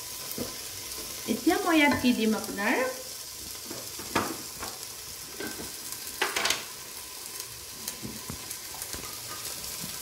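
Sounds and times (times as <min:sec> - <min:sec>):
vegetables sizzling in pot: 0:00.0 - 0:10.0.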